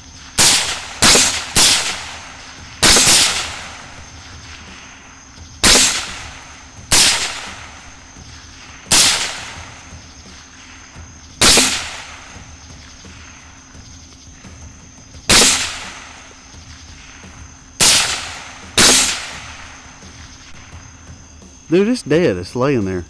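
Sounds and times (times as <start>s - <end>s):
rifle shots: 0.2s - 21.2s.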